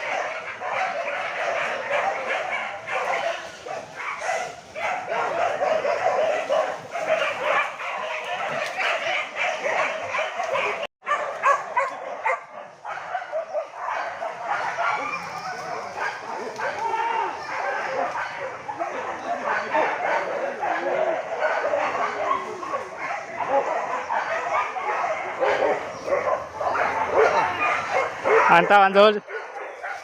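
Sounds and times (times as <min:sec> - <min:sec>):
dogs barking and yelping: 0:00.0 - 0:30.0.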